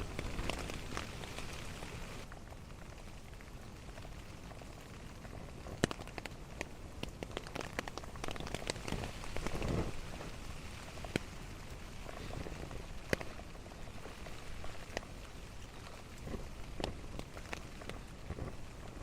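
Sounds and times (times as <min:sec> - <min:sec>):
rain dripping on a tarp: 0:00.0 - 0:19.0.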